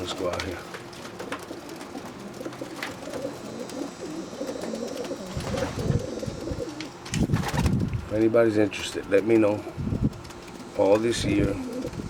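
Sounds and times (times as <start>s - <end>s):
pigeons cooing: 0.0s - 8.1s, 9.0s - 12.0s.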